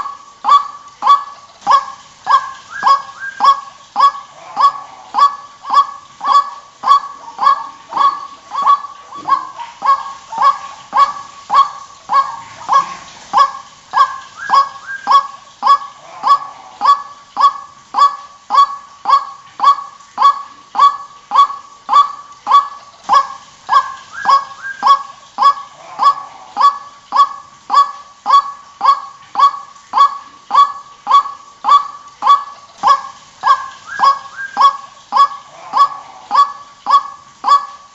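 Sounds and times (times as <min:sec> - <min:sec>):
waterhen honking calls: 0:00.0 - 0:37.9.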